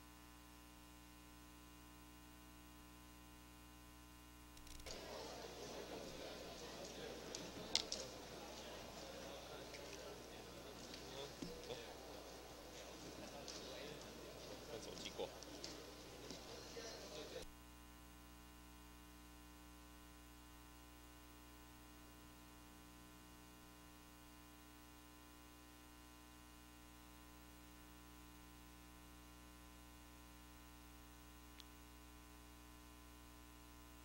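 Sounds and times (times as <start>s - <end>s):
electrical hum and hiss: 0.0s - 34.0s.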